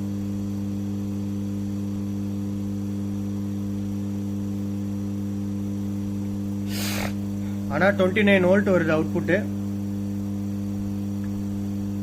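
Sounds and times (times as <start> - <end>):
refrigerator compressor humming: 0.0 - 12.0.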